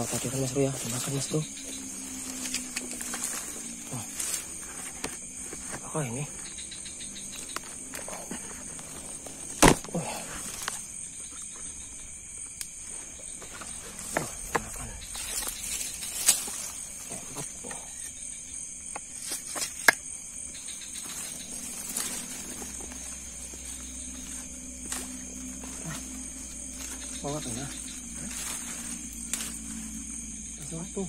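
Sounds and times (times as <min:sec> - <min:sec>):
crickets chirring: 0:00.0 - 0:31.0.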